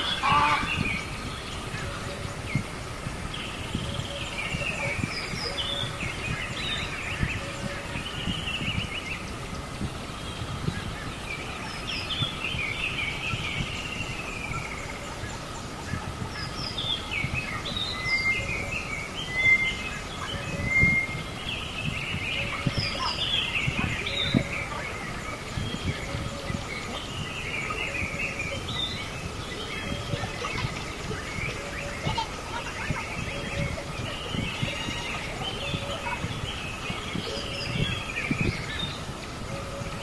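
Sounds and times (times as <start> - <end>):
background hiss: 0.0 - 40.0
birds chirping and singing: 0.0 - 40.0.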